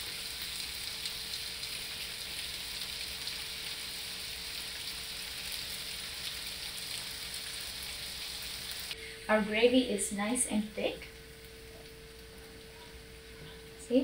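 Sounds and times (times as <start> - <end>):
food sizzling in pan: 0.0 - 14.0.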